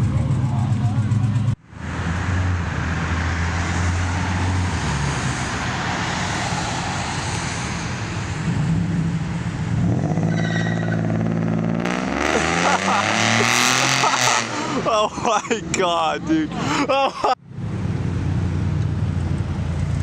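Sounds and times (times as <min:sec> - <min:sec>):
car engine revving: 0:00.0 - 0:16.1
car engines running: 0:00.0 - 0:20.0.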